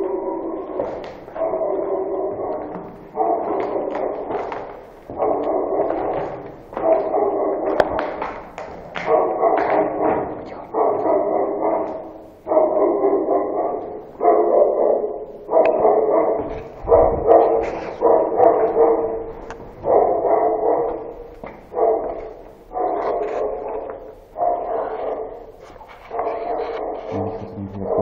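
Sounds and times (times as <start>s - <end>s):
dog barking: 0.0s - 28.0s.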